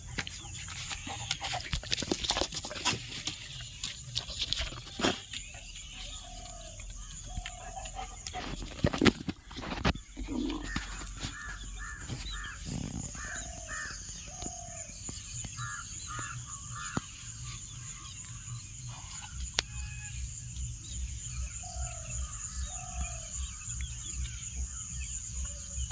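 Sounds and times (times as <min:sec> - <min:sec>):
birds calling: 0:00.0 - 0:25.9.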